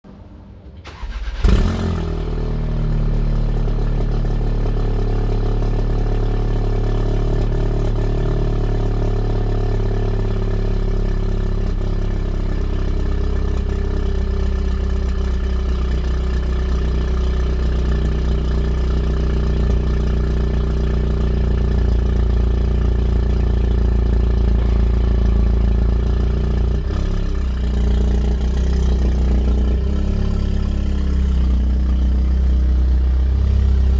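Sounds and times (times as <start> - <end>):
car engine starting and idling: 0.1 - 33.9.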